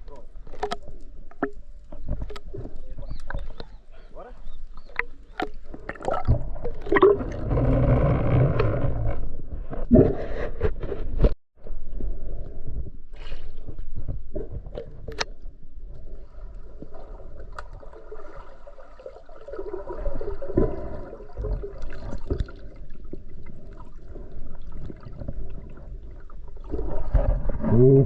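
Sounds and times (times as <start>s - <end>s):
water gurgling and sloshing: 0.0s - 28.0s.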